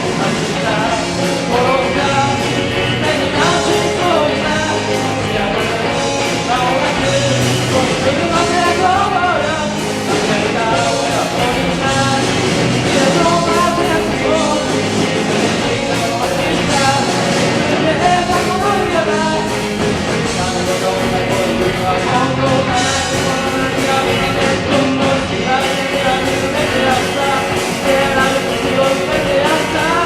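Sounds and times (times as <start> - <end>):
band playing pop-rock: 0.0 - 30.0
person singing: 0.0 - 30.0.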